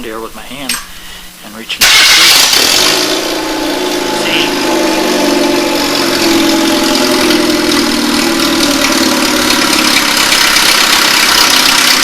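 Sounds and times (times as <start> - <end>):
car engine running smoothly: 1.9 - 12.0.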